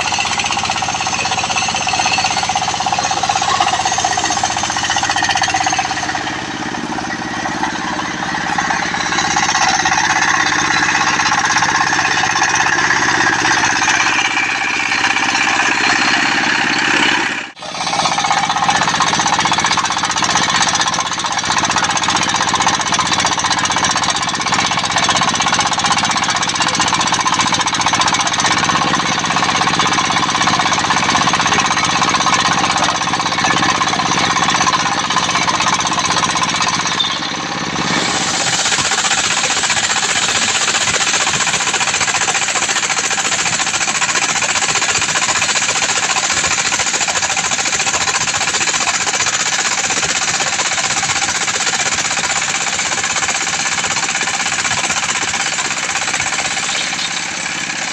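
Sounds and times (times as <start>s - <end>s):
drive engine: 0.0s - 57.9s
saw blade ripping wood: 0.0s - 57.9s.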